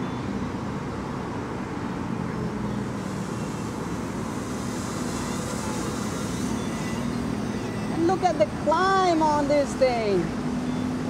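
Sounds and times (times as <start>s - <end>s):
drone rotors buzzing: 0.0s - 11.0s.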